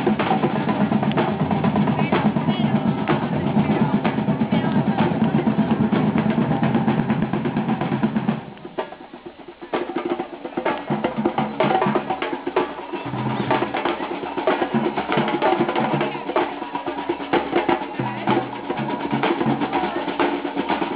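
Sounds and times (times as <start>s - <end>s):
drum percussion with snare rolls: 0.0s - 20.9s.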